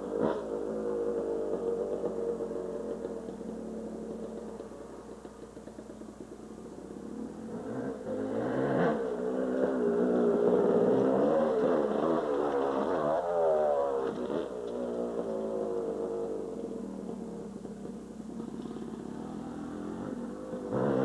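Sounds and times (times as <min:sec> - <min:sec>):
dirt bike engine revving: 0:00.0 - 0:06.0, 0:07.0 - 0:21.0.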